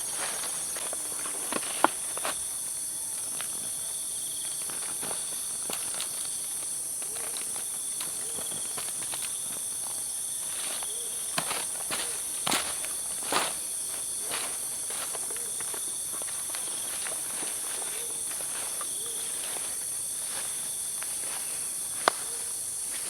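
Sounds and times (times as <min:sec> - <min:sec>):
insect chorus drone: 0:00.0 - 0:23.0.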